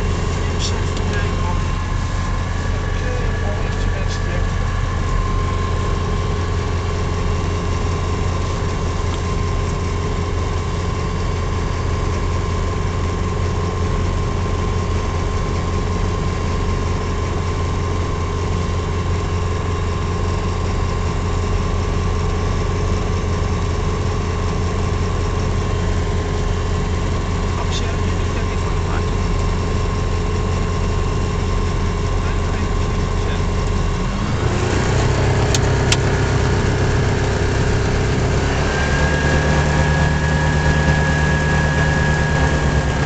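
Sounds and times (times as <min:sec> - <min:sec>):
aircraft engine and propeller: 0:00.0 - 0:43.0.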